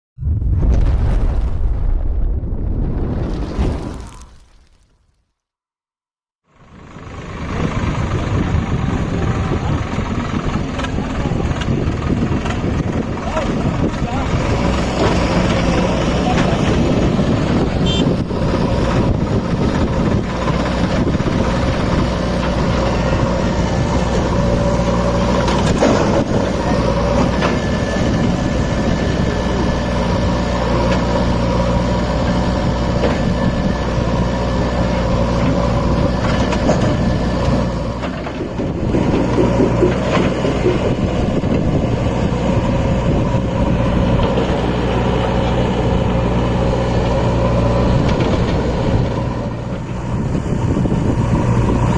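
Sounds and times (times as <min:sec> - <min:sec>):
tractor diesel engine running: 0:06.4 - 0:51.9.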